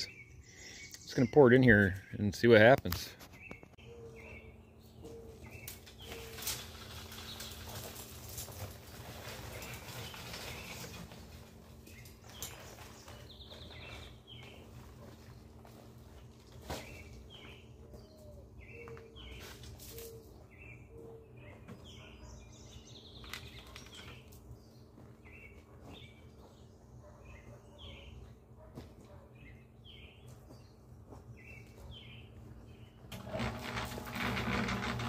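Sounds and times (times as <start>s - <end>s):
small birds chirping: 0.0s - 7.9s, 9.2s - 15.9s, 16.6s - 33.1s.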